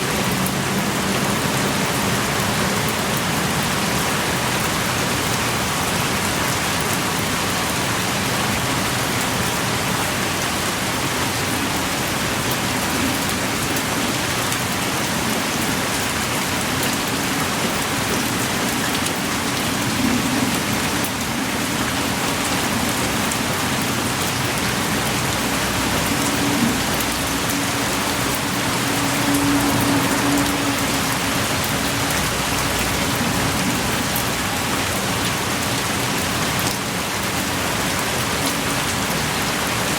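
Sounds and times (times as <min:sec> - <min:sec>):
heavy rain pouring: 0:00.0 - 0:39.9
sharp drips: 0:00.0 - 0:39.9.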